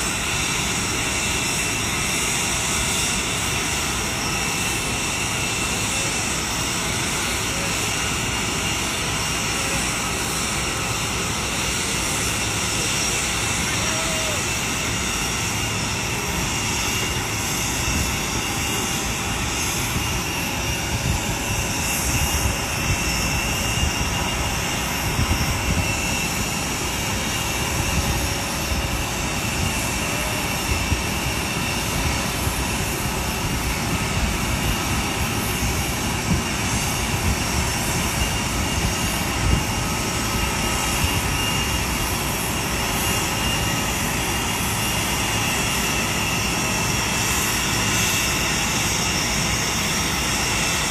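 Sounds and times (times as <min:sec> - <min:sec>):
jet aircraft engine whine: 0:00.0 - 0:50.9.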